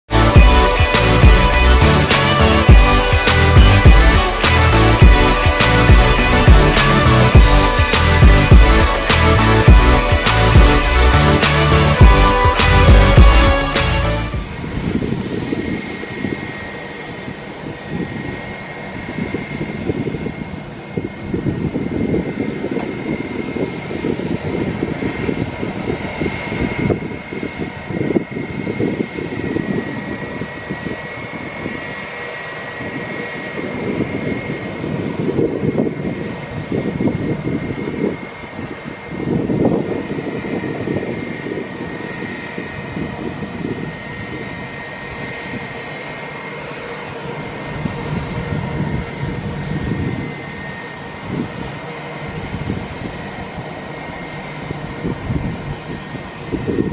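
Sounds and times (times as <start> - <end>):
airplane engines whining: 0.1 - 56.9.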